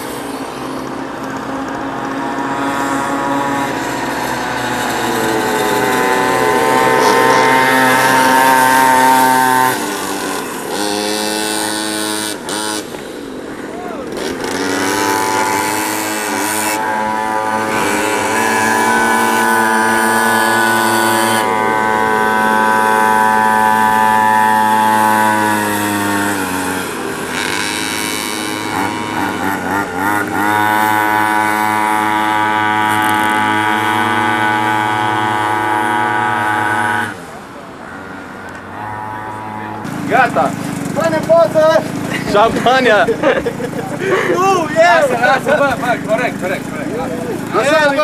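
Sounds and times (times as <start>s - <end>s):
small high-revving engines: 0.0s - 48.0s.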